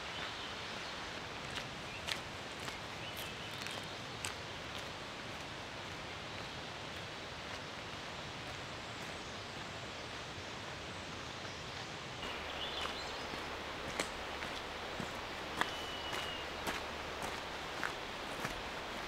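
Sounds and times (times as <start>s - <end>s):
forest rushing hiss: 0.0s - 19.0s.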